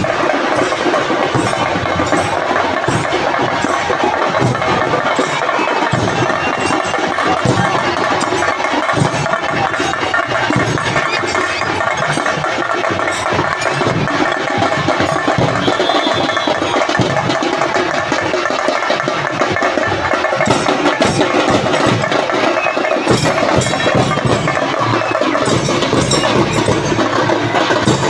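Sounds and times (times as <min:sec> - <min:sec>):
barrel drums beating: 0:00.0 - 0:28.0.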